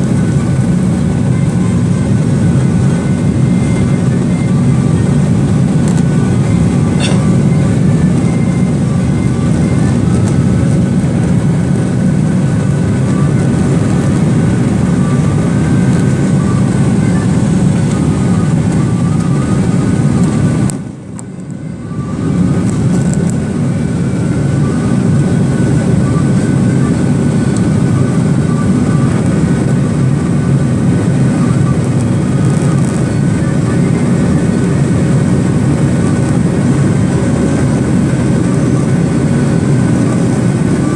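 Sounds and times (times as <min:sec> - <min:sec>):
airplane cabin engine rush: 0:00.0 - 0:40.9.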